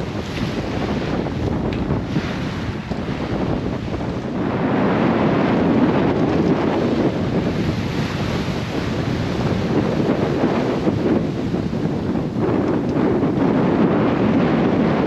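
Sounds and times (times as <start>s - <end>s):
sea water rushing past hull: 0.0s - 15.0s
wind buffeting microphone: 0.0s - 15.0s.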